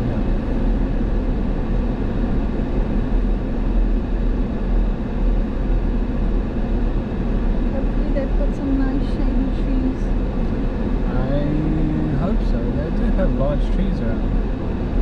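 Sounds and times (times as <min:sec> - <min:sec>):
engine and tyre noise inside car: 0:00.0 - 0:15.0.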